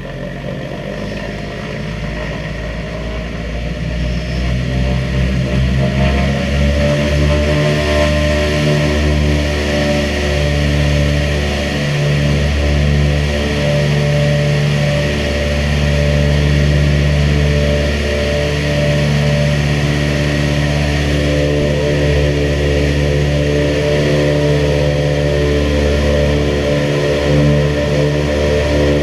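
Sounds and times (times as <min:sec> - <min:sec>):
radial aircraft engines roaring: 0:00.0 - 0:29.0.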